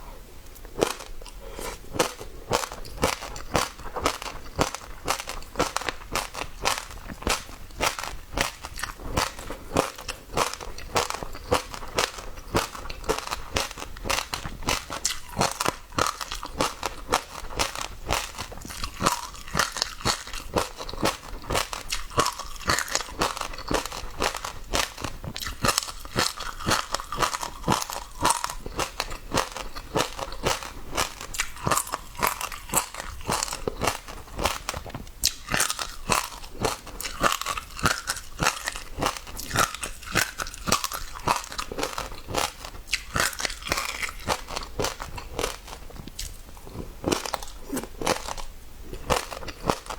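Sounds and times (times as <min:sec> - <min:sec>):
seeds crunching between teeth: 0:00.7 - 0:49.9.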